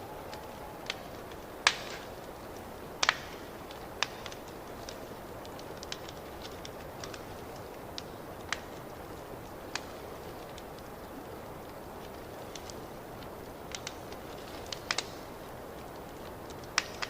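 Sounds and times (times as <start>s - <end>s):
fire hissing: 0.0s - 17.0s
wood fire pops and ticks: 0.0s - 17.0s.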